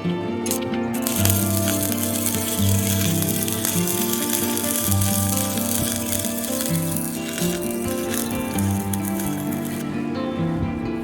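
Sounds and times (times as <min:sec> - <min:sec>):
even hiss: 0:00.0 - 0:10.8.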